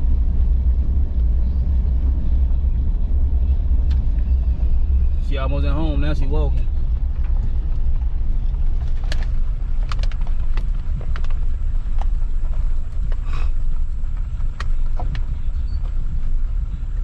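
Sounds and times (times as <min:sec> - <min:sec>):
truck driving over rough ground: 0:00.0 - 0:17.0.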